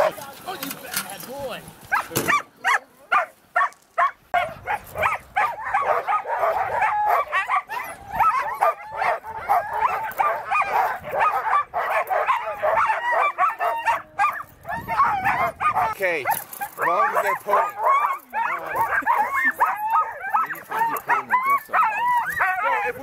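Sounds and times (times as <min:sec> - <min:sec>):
sled dogs yelping and whining: 0:01.8 - 0:23.0.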